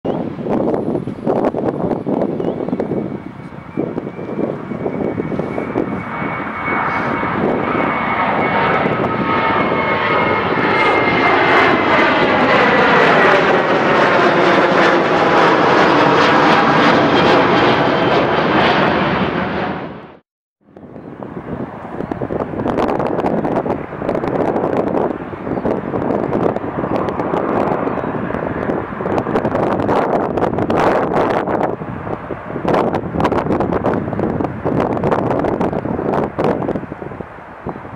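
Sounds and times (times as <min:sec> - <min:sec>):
high engine whine: 0:00.1 - 0:37.9
jet engines at takeoff power: 0:00.1 - 0:37.9.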